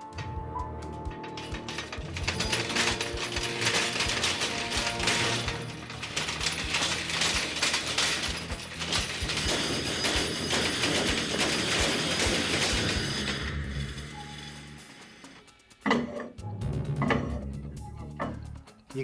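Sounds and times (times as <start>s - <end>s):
metallic rattling and clanking: 0.0s - 19.0s.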